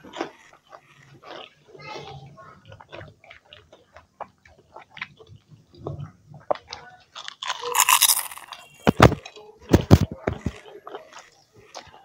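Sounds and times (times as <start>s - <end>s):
chewing crunchy pastry: 0.0s - 12.0s.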